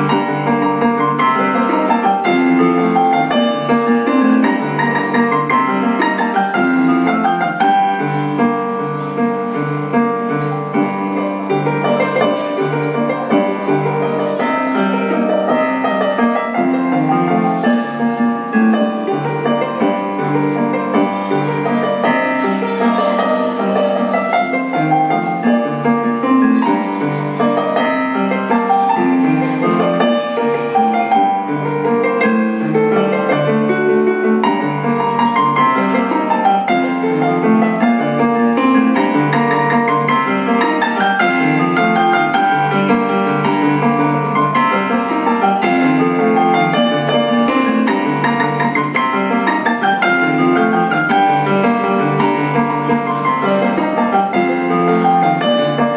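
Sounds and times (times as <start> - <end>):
piano keyboard music: 0.0 - 55.9.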